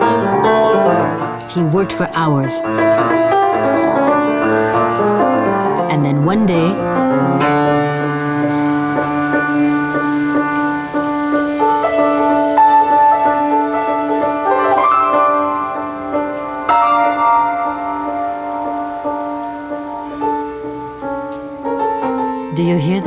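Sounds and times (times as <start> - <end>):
slow piano-like keyboard music: 0.0 - 23.0.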